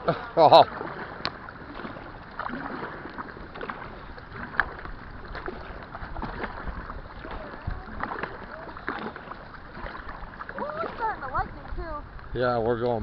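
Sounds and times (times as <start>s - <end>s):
paddle strokes splashing water: 0.0s - 13.0s
wind on microphone: 0.7s - 13.0s.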